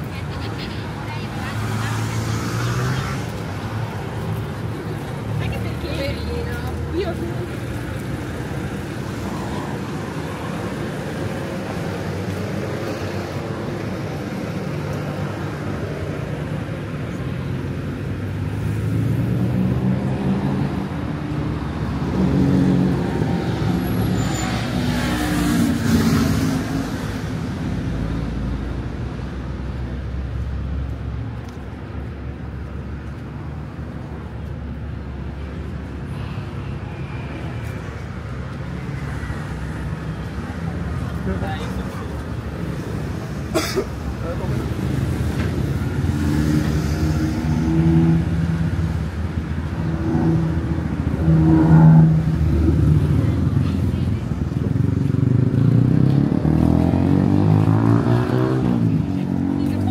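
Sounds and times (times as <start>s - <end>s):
traffic hum: 0.0s - 59.9s
vehicles passing close by: 0.0s - 59.9s.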